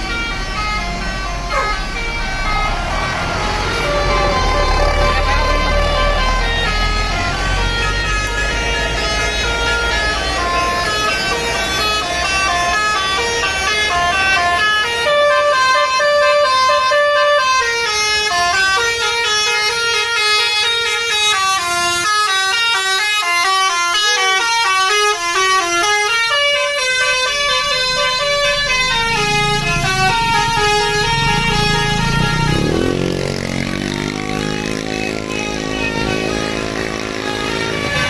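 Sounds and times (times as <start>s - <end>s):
bus engine rumble: 0.0s - 38.0s
bus horn melody: 0.0s - 38.0s.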